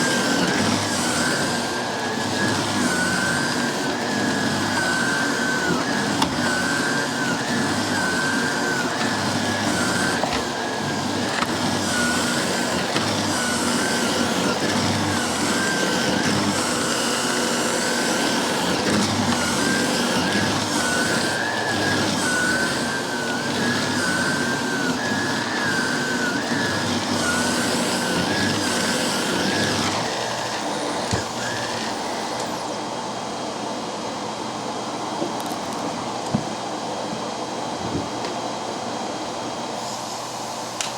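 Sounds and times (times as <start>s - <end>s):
vacuum cleaner air rush: 0.0s - 40.9s
vacuum cleaner motor whine: 0.0s - 40.9s.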